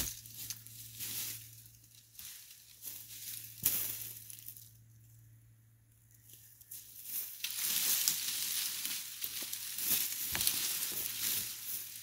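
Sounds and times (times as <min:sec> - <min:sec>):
wood and brush crackling: 0:00.0 - 0:05.2, 0:06.0 - 0:12.0.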